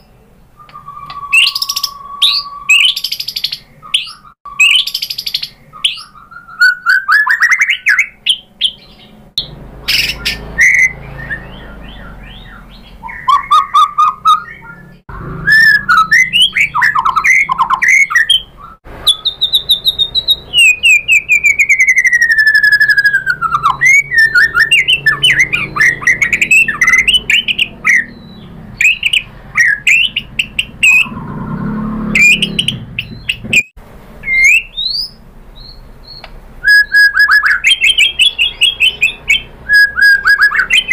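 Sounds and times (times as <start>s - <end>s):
songbird whistling and chattering: 0.0s - 40.9s.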